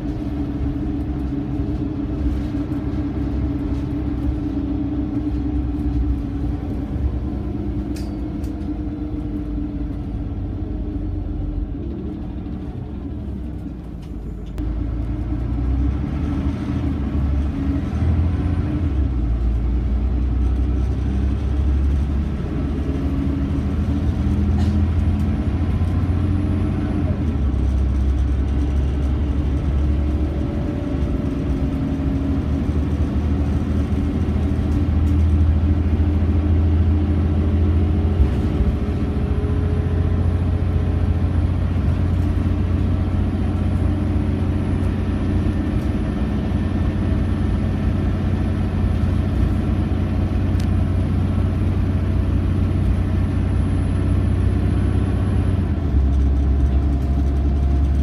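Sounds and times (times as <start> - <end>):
diesel bus engine drone: 0.0 - 58.0
road rumble: 0.0 - 58.0.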